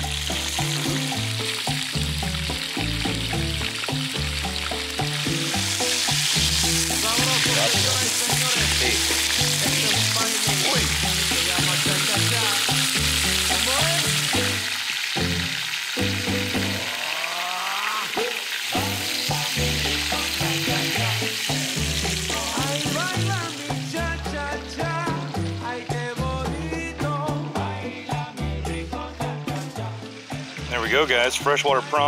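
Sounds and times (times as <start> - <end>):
music with repeating bass line: 0.0 - 16.9, 18.8 - 32.0
hot oil sizzling: 0.0 - 32.0.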